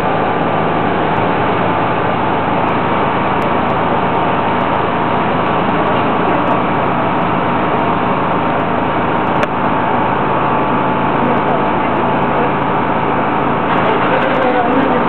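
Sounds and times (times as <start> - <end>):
crane engine droning: 0.0 - 15.0.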